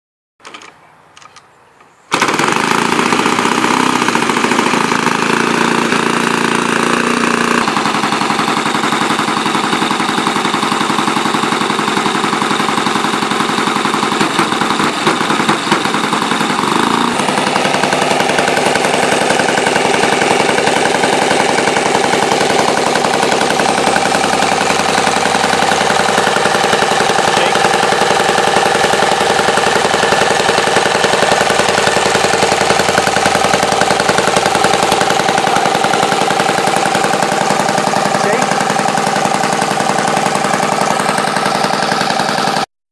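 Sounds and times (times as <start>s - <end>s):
model aircraft engine running: 2.1s - 42.7s.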